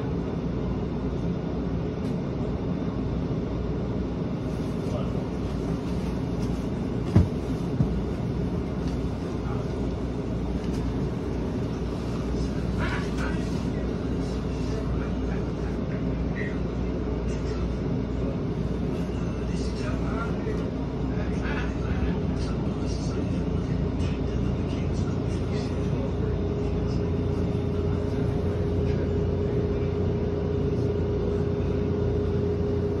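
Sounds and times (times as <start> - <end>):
constant hum: 0.0 - 33.0
low rumble inside trolley car: 0.0 - 33.0.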